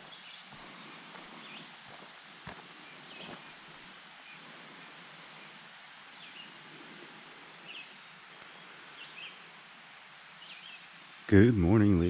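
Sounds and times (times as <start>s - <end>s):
birds chirping: 0.0s - 12.0s
creek water flowing: 0.0s - 12.0s.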